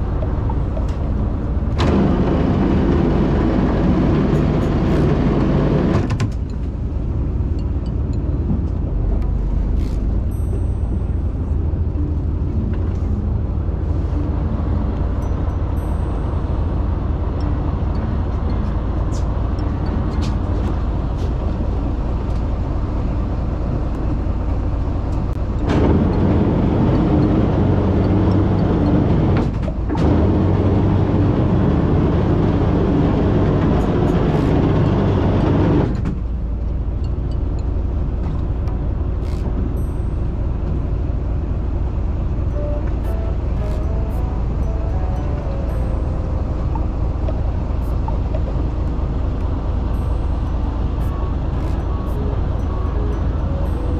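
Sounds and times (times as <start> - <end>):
boat engine humming: 0.0 - 53.9
wind: 0.0 - 53.9.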